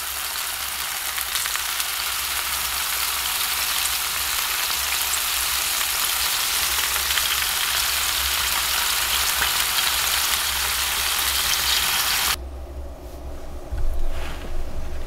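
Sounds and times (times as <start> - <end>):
meat sizzling in a pan: 0.0 - 12.4.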